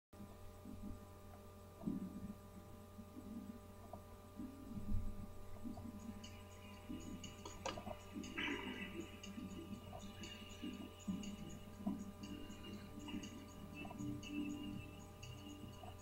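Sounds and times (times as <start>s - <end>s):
mains hum: 0.2s - 16.0s.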